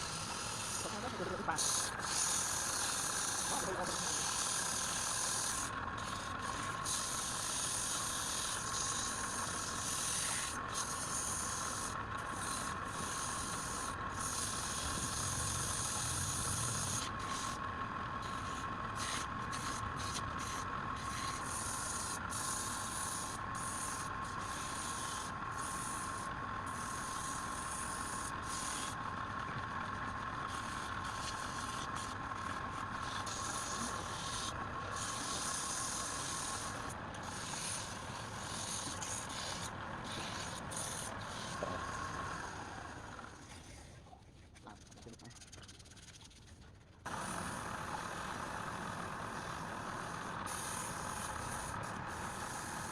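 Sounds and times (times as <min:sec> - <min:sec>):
wood lathe whine: 0:00.0 - 0:43.7, 0:47.1 - 0:52.9
tool rubbing spinning wood: 0:00.0 - 0:43.9, 0:44.6 - 0:52.9.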